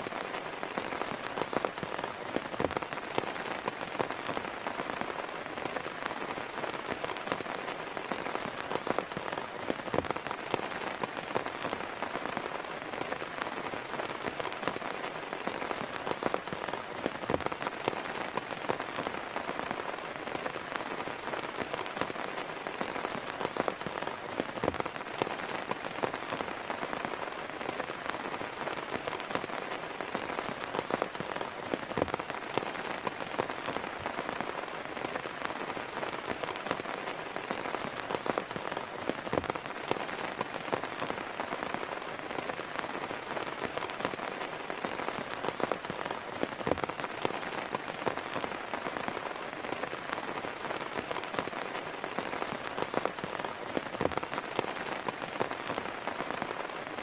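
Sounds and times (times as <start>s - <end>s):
heavy rain falling: 0.0s - 57.0s
raindrops striking close by: 0.0s - 57.0s.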